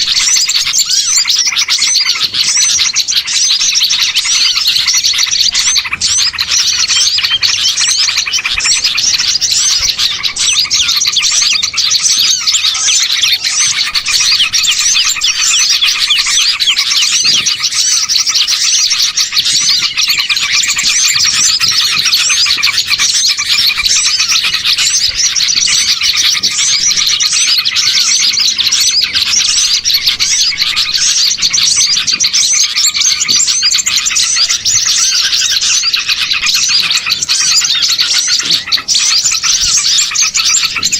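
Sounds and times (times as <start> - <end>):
small songbirds chirping: 0.0 - 40.9.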